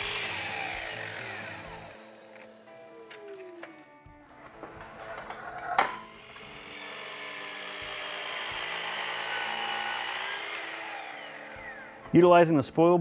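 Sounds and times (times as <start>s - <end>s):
miter saw whining and cutting: 0.0s - 3.5s, 4.3s - 12.2s.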